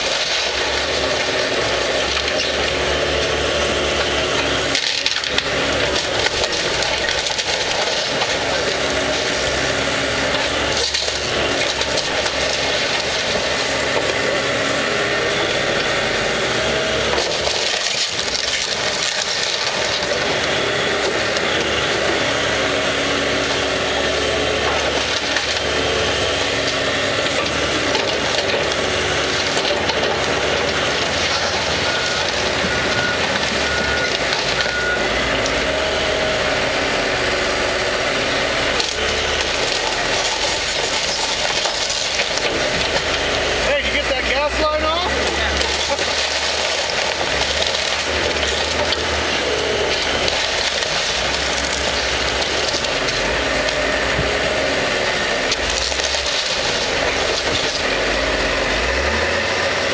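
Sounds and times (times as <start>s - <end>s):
debris crashing: 0.0s - 37.0s, 37.6s - 59.9s
excavator diesel engine running: 0.0s - 59.9s
wood splintering: 0.0s - 59.9s.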